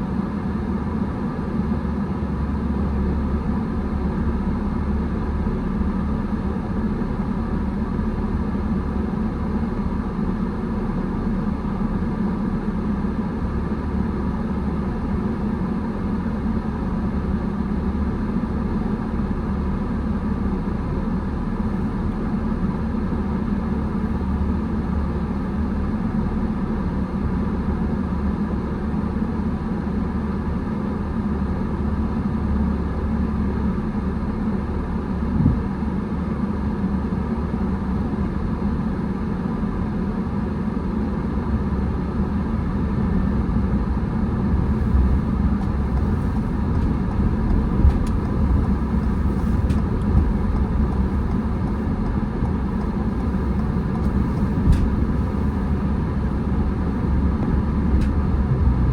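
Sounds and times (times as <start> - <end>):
car engine and tyres rumbling: 0.1 - 58.9.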